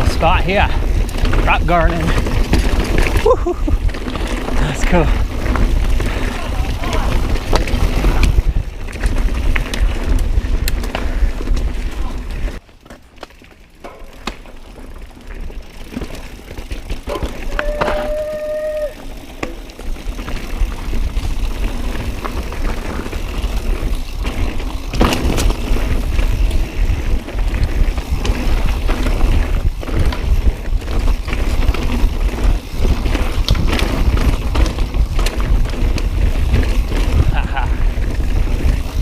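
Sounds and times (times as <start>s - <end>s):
wind rumbling on microphone: 0.0s - 12.6s, 17.1s - 39.0s
bike knocking and rattling: 0.0s - 39.0s
tyres rolling over rock: 0.8s - 39.0s.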